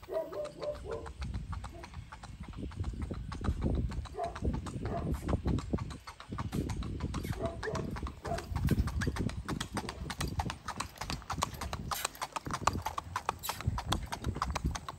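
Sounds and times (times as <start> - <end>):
horse hooves clip-clopping on pavement: 0.0 - 14.9.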